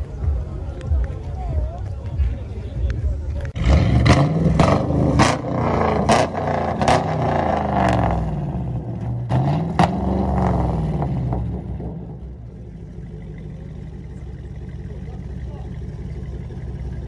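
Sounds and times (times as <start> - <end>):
exhaust cracks: 2.8 - 17.0
car engine revving: 3.1 - 17.0.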